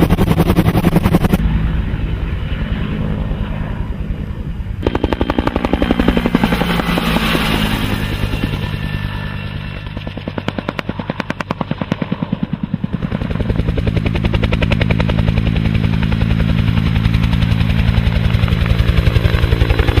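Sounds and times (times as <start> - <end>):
helicopter rotor chop and engine drone: 0.0 - 20.0.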